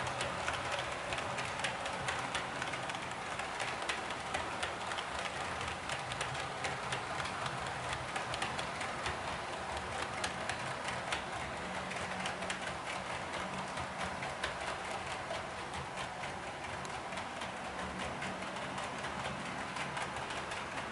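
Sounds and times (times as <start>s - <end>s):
model train hum: 0.0s - 20.9s
small irregular clicks: 0.0s - 20.9s.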